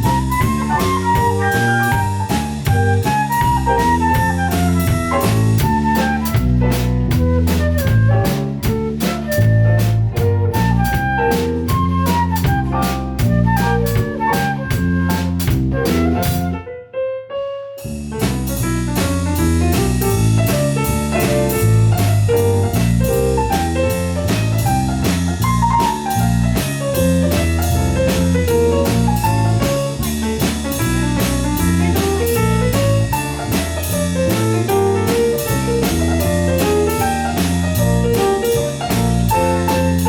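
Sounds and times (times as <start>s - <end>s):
jazz band playing: 0.0s - 16.6s, 17.8s - 40.0s.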